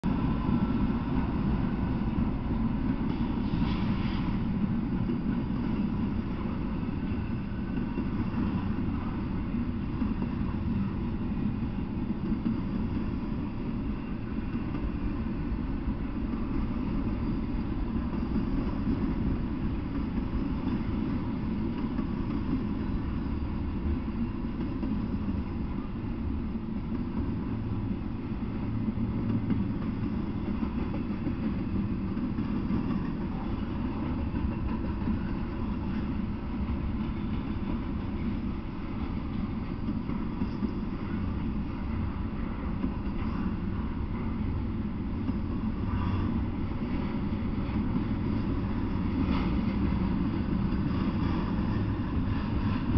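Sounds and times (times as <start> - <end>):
freight train wheels rumbling on rail: 0.0 - 52.9.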